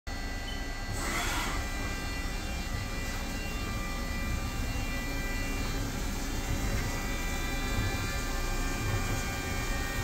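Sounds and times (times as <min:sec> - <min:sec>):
machining center whining: 0:00.1 - 0:10.0.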